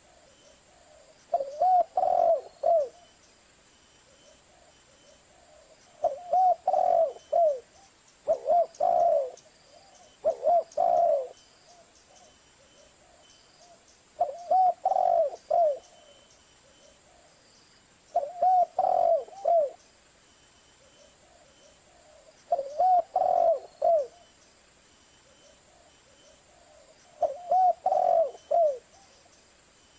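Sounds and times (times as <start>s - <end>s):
dove cooing: 0.0s - 3.1s, 4.1s - 17.3s, 18.1s - 19.8s, 20.8s - 24.3s, 25.2s - 29.4s.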